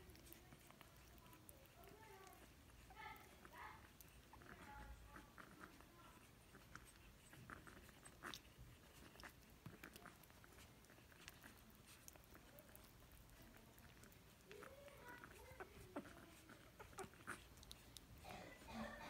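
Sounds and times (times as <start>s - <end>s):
puppies moving about: 0.0s - 19.0s.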